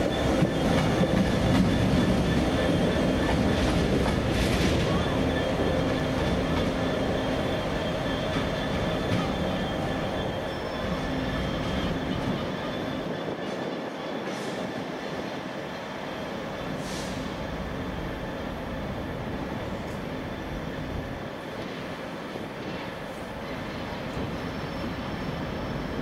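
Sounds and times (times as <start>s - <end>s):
train rumble: 0.0s - 26.0s
train wheels squealing on rails: 0.0s - 26.0s.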